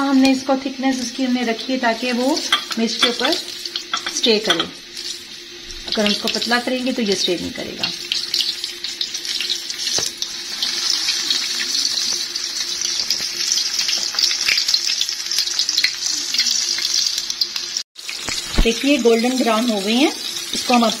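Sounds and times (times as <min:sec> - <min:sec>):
chillies deep-frying in oil: 0:00.0 - 0:21.0.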